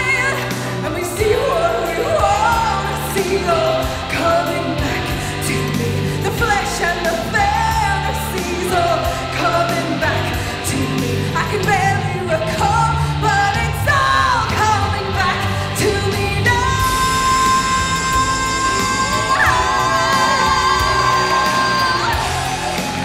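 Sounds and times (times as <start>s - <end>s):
woman singing into a microphone: 0.0s - 22.9s
pop-rock backing music: 0.0s - 23.0s.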